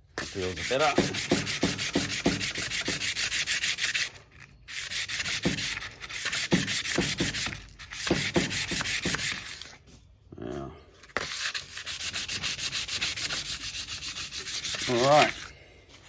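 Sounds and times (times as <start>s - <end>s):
hand sanding metal shaft: 0.2s - 9.8s, 11.2s - 15.5s.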